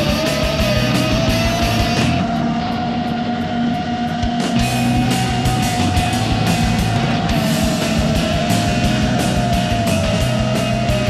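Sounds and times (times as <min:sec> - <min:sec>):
distorted electric guitar: 0:00.0 - 0:11.0
driving drum beat: 0:00.0 - 0:11.0
heavy rock music: 0:00.0 - 0:11.0.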